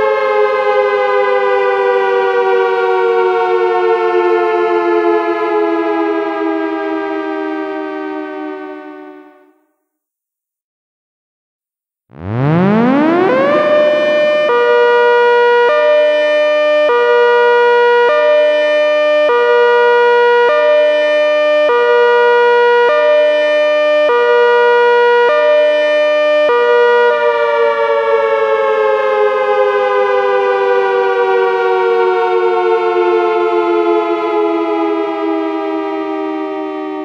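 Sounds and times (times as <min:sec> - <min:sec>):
hi-lo siren: 0:00.0 - 0:09.7, 0:12.1 - 0:37.0.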